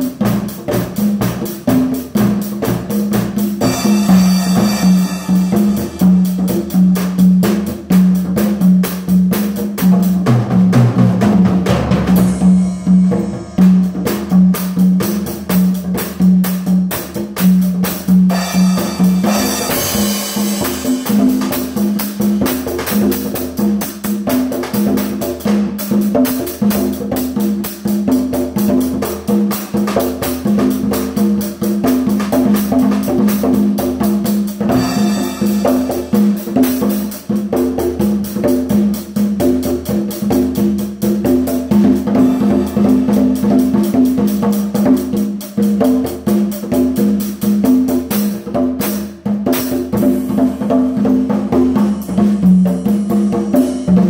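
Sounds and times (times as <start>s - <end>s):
drum kit groove with cymbals: 0.0s - 54.0s.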